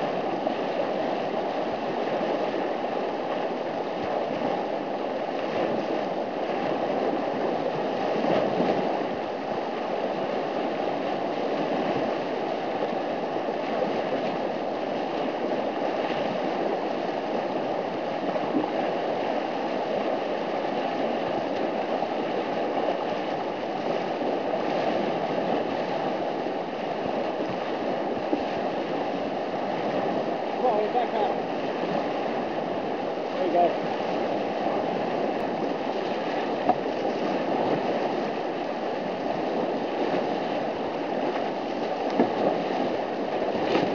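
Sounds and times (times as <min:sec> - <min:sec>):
whitewater rapids rushing: 0:00.0 - 0:43.9.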